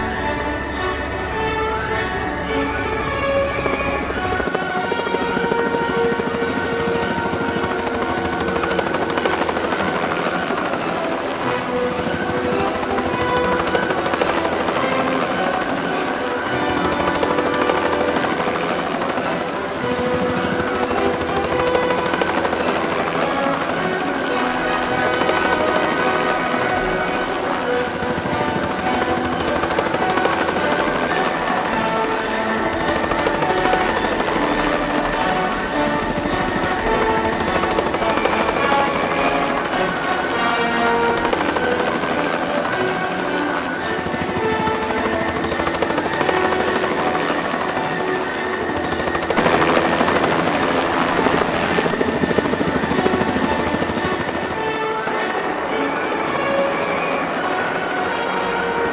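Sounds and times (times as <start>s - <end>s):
helicopter engine whine: 0.0s - 58.9s
helicopter rotor chop: 0.0s - 58.9s
music playing: 0.0s - 58.9s.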